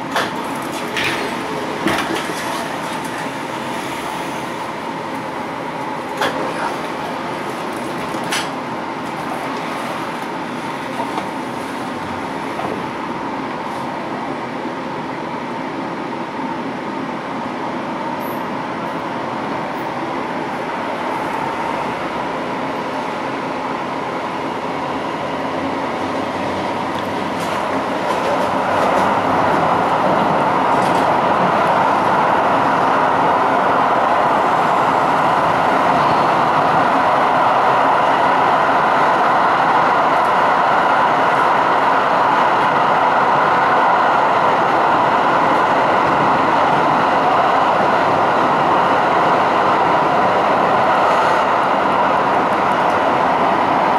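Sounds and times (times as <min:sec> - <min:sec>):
light-rail car rolling noise: 0:00.0 - 0:53.9.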